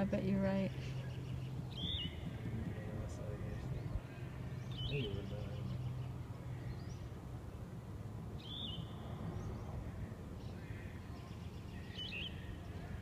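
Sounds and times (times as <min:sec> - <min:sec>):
birds whistling calls: 0:00.5 - 0:07.2, 0:08.4 - 0:13.0.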